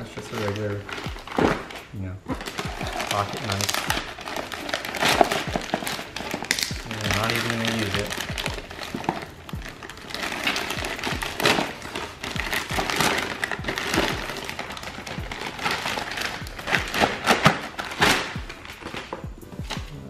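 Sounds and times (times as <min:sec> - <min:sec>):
plastic bag crinkling and tearing: 0:00.0 - 0:20.0.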